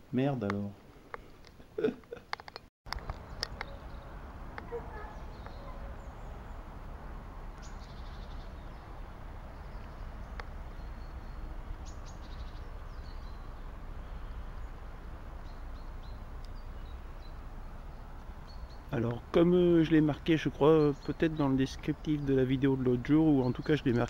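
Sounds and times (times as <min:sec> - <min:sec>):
birds chirping: 0:02.9 - 0:24.0.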